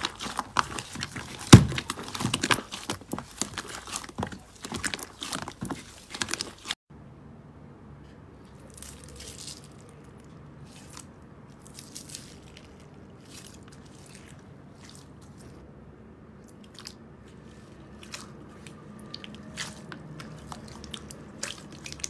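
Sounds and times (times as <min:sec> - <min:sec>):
hands squishing slime: 0:00.0 - 0:06.8, 0:08.4 - 0:15.6, 0:16.4 - 0:22.0
slime crackling: 0:00.0 - 0:06.8, 0:08.5 - 0:15.6, 0:16.5 - 0:22.0.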